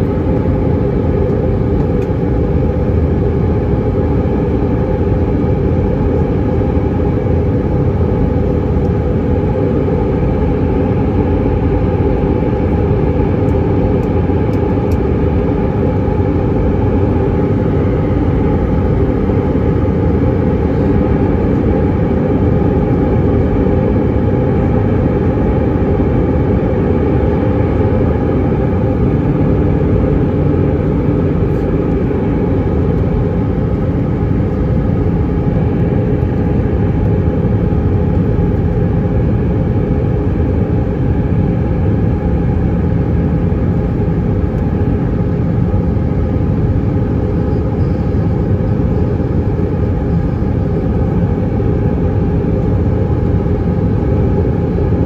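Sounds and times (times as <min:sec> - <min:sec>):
jet engines humming: 0:00.0 - 0:55.0
rushing airflow in aircraft cabin: 0:00.0 - 0:55.0
steady droning tones: 0:00.0 - 0:55.0.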